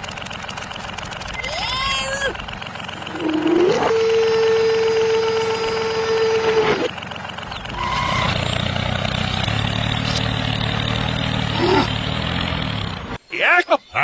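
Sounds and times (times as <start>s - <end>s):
small motor whine: 0.0s - 13.2s
low engine-like idling hum: 0.0s - 13.3s.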